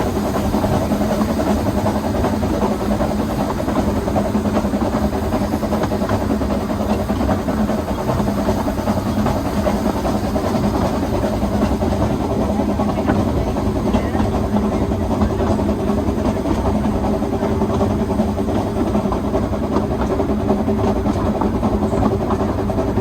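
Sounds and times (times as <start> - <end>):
locomotive rumble: 0.0 - 23.0
steam hissing: 0.0 - 23.0.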